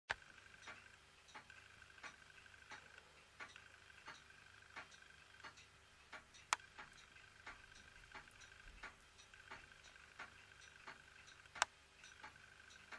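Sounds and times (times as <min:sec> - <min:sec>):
mechanical ticking: 0:00.1 - 0:12.9.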